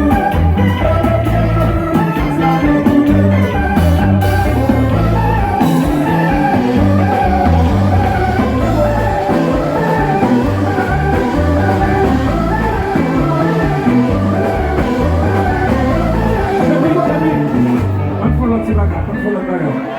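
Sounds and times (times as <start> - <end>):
person singing: 0.0 - 18.4
steady bass beat: 0.0 - 19.0
guitar: 0.0 - 19.9.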